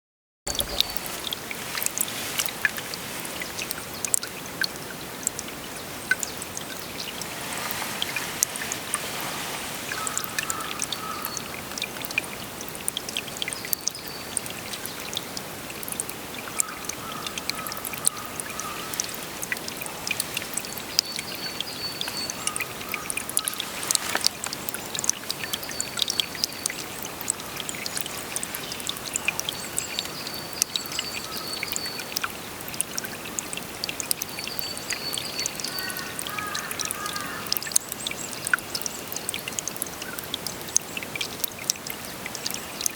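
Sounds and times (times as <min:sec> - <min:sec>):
water flowing and trickling: 0:00.5 - 0:42.9
water splashes and drips: 0:00.5 - 0:42.9.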